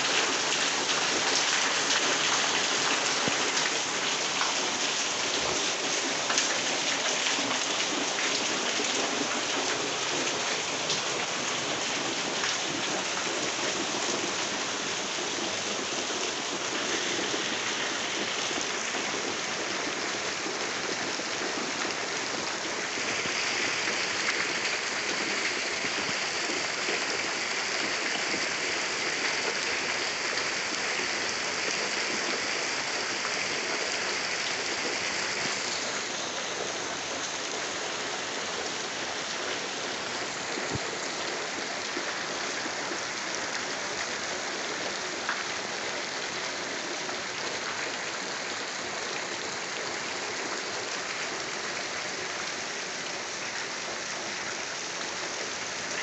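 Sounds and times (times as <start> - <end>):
heavy rain on roofs: 0.0 - 56.0
water streaming off eaves: 0.0 - 56.0.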